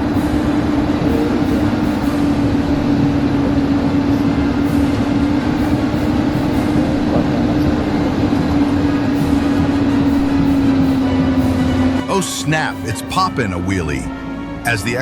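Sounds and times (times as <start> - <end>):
heavy machinery droning: 0.0 - 15.0.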